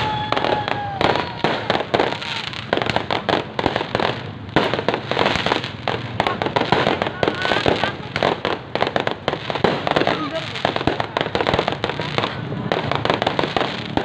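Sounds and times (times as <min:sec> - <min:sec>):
firecrackers cracking and banging: 0:00.0 - 0:14.0.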